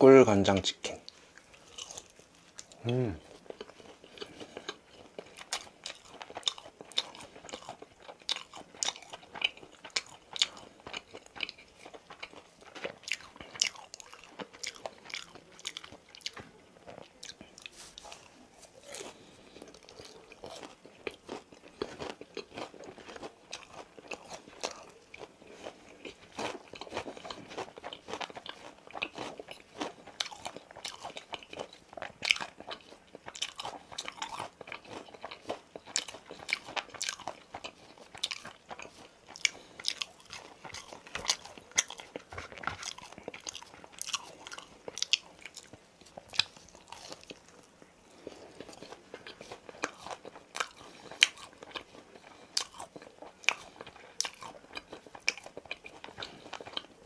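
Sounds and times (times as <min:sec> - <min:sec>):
soft chewing: 0:00.5 - 0:57.0
crunching fried chicken: 0:00.9 - 0:57.0.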